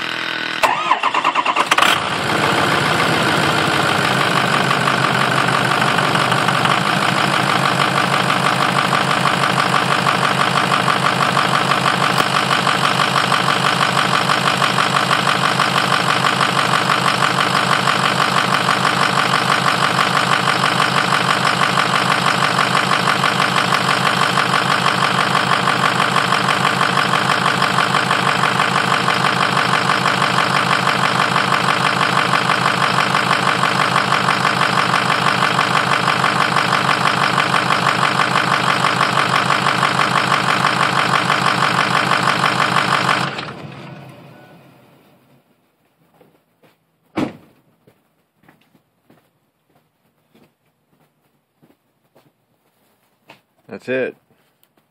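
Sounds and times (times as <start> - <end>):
diesel engine idling: 0.0 - 45.2.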